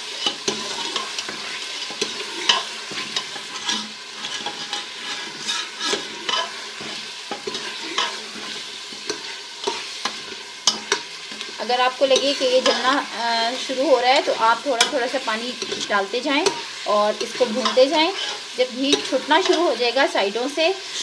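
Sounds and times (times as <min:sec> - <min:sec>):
curry sizzling: 0:00.0 - 0:21.0
spoon scraping pot: 0:00.1 - 0:19.8.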